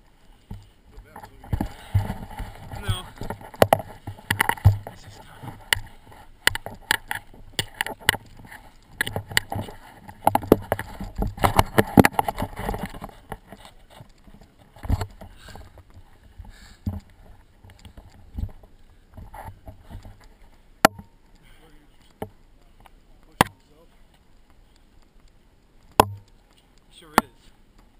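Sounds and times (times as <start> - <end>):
handling noise clicks and knocks: 0.0 - 21.4, 22.0 - 27.9
footsteps: 0.0 - 27.9.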